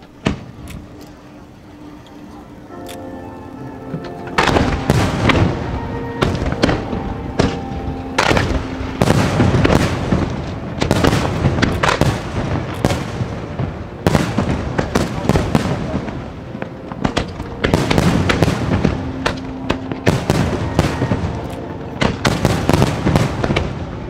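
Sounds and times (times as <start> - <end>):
fireworks booming: 0.0 - 1.0, 4.0 - 24.0
music playing: 0.0 - 24.0.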